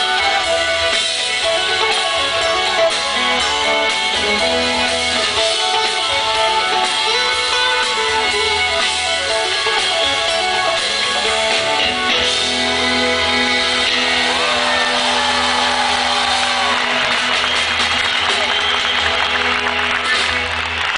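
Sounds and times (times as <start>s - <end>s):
electric guitar playing: 0.0s - 20.9s
live rock band: 0.0s - 20.9s.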